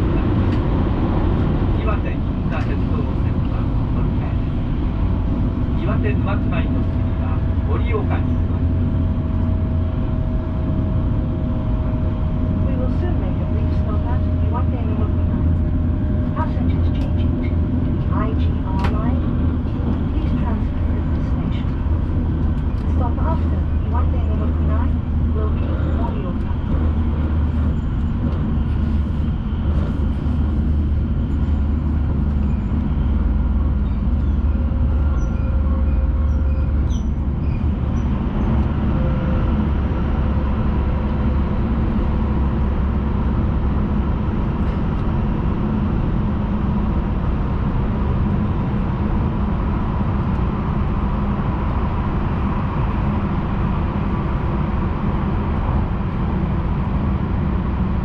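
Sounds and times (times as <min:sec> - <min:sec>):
train wheels rumbling: 0:00.0 - 0:57.8.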